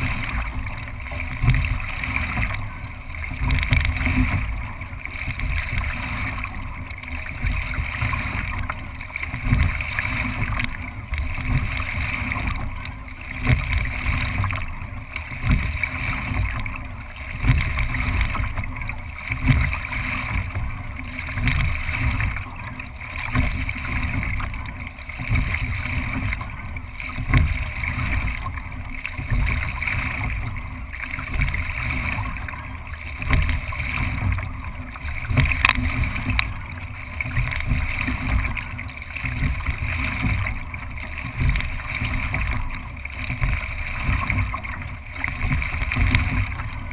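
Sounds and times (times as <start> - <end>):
water rushing past boat: 0.0 - 46.9.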